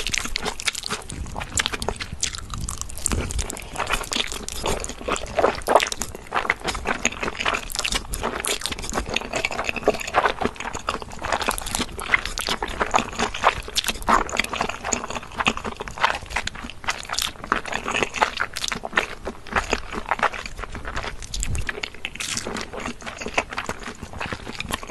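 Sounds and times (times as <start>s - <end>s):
crunchy food being chewed: 0.0s - 24.9s.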